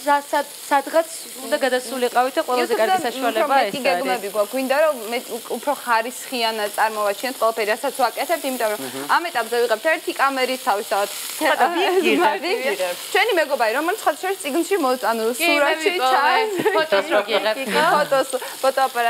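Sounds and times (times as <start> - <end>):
meat sizzling in a pan: 0.0 - 19.0
woman talking: 0.0 - 19.0.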